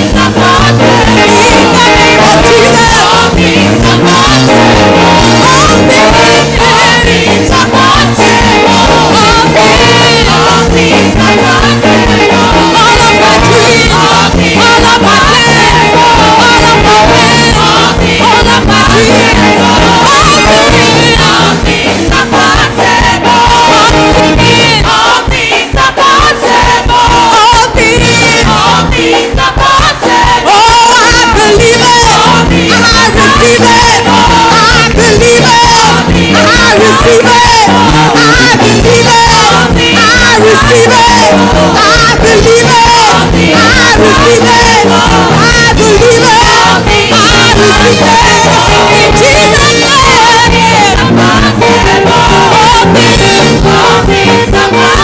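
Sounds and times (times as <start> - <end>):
congregation singing: 0.0 - 55.0.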